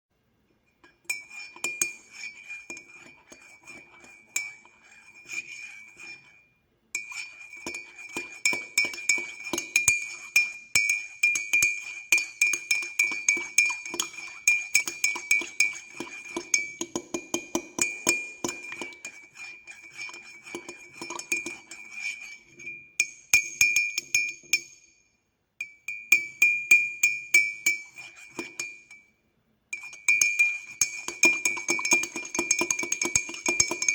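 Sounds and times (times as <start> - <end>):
teaspoon clinking against cup: 0.8 - 24.9, 25.6 - 29.1, 29.7 - 33.9.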